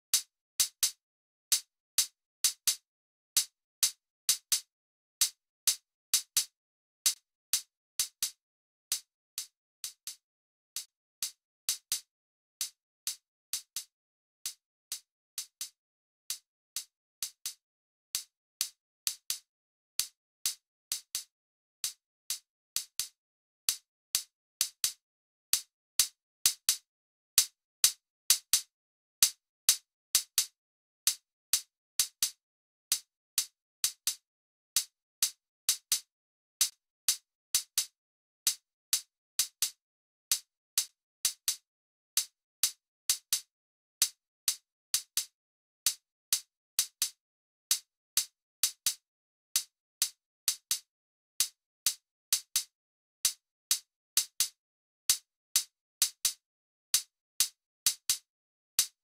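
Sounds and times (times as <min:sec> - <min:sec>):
drum machine hi-hat ticks: 0:00.1 - 0:02.8, 0:03.4 - 0:41.6, 0:42.2 - 0:59.0.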